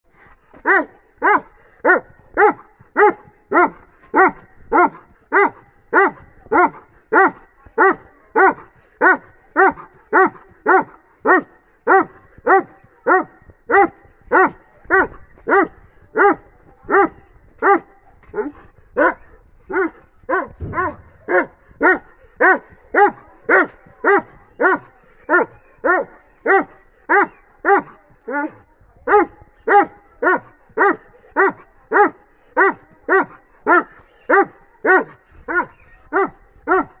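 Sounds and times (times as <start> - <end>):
dog barking: 0.6 - 37.0.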